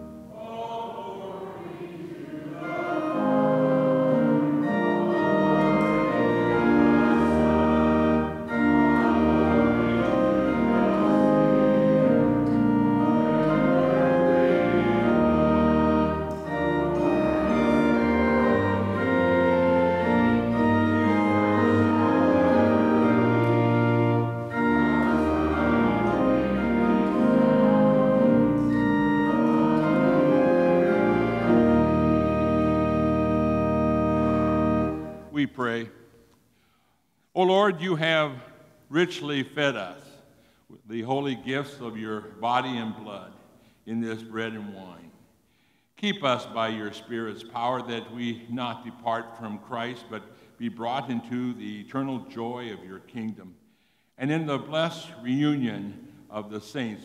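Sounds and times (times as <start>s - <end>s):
church organ playing chords: 0.0s - 36.2s, 37.4s - 40.1s, 40.8s - 45.1s, 46.2s - 53.5s.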